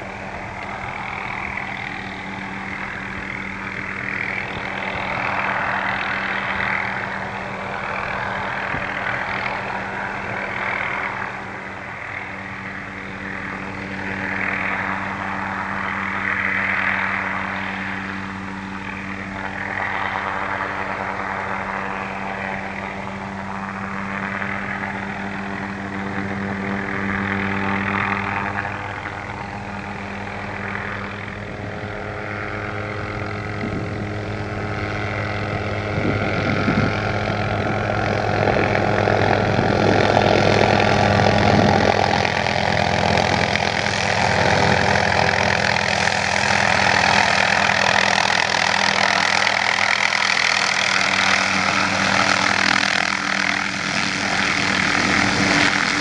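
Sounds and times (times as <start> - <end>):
helicopter engine hum: 0.0 - 56.0
helicopter rotor noise: 0.0 - 56.0.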